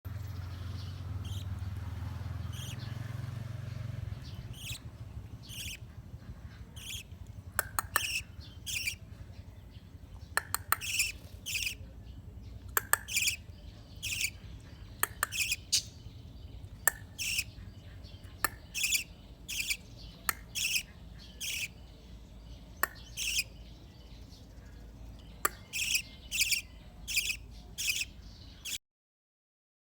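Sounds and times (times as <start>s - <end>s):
budgerigar chirping: 0.5s - 24.2s, 25.2s - 28.8s.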